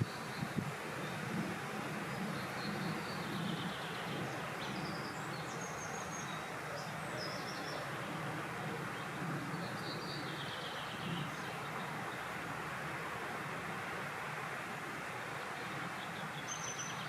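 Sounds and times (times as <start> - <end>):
small birds chirping: 0.0 - 12.4, 15.3 - 17.0.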